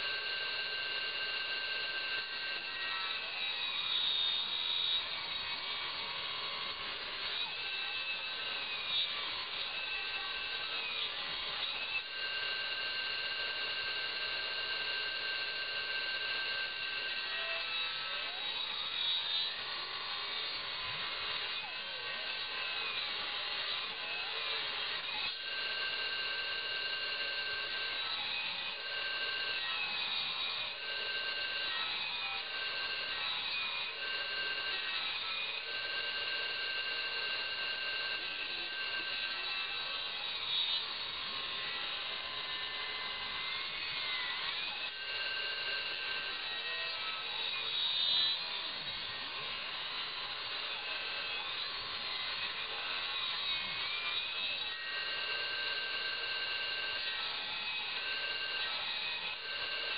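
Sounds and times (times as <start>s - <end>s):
circular saw blade whining: 0.0s - 59.9s.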